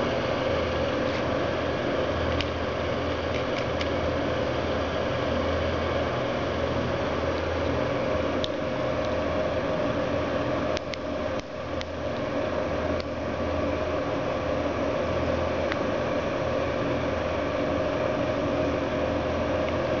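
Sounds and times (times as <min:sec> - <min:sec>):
fan humming and hissing: 0:00.0 - 0:20.0.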